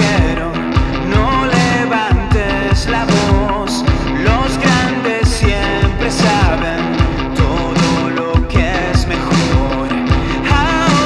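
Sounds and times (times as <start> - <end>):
rock band music: 0.0 - 11.0
steady drum beat: 0.0 - 11.0.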